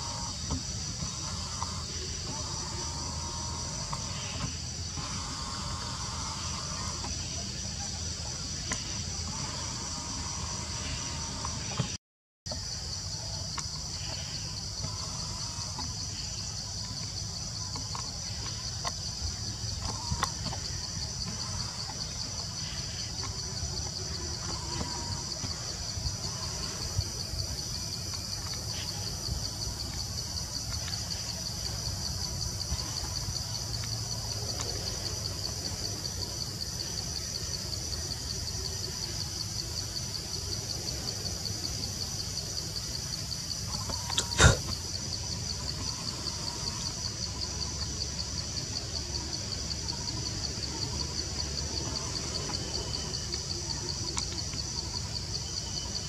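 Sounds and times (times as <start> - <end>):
high-pitched insect drone: 0.0 - 12.0, 12.6 - 56.0
faint chirps: 0.0 - 56.0.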